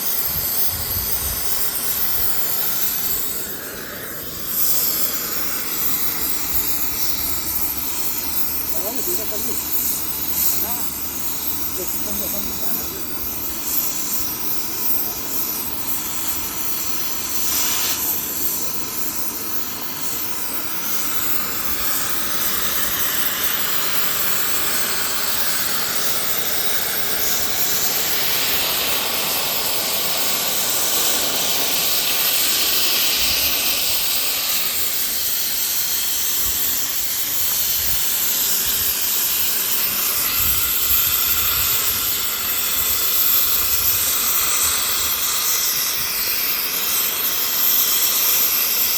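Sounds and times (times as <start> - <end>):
cutting torch hissing: 0.0 - 48.9.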